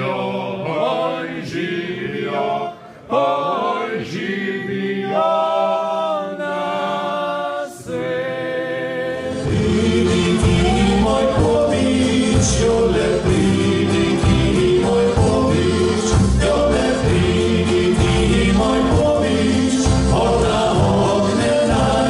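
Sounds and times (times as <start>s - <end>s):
group singing unaccompanied: 0.0s - 22.0s.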